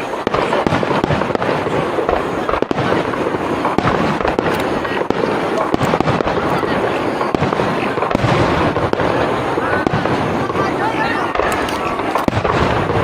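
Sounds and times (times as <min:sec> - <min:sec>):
fireworks bangs and booms: 0:00.0 - 0:13.0
fireworks crackling: 0:00.0 - 0:13.0.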